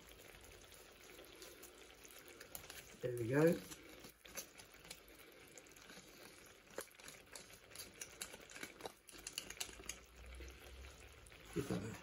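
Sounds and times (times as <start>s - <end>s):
sauce bubbling and popping: 0.0s - 12.0s.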